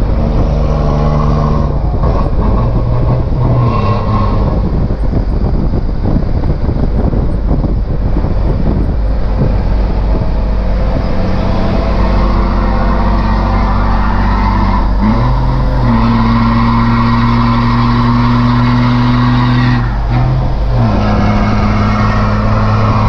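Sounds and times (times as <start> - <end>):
truck diesel engine droning: 0.0 - 23.0.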